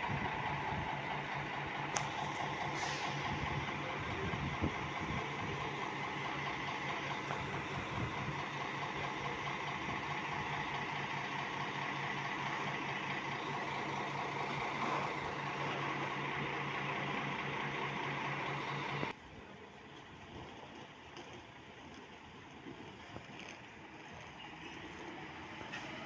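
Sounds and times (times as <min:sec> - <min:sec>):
bus engine idling: 0:00.0 - 0:26.0.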